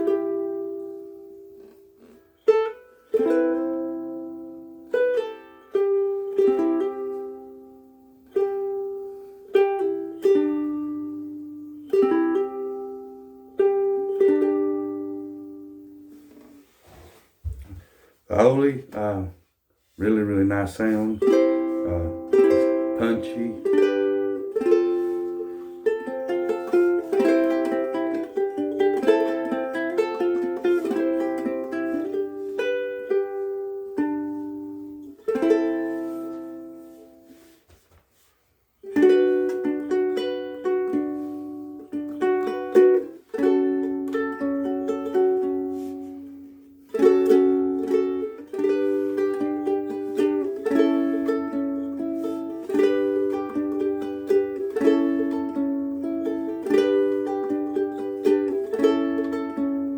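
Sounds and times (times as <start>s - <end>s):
ukulele playing: 0.0s - 59.9s.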